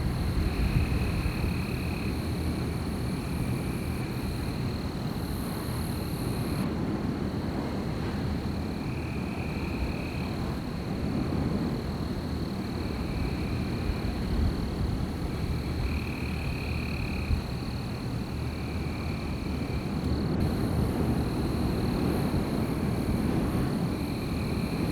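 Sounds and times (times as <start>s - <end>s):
wind rumble: 0.0s - 24.9s.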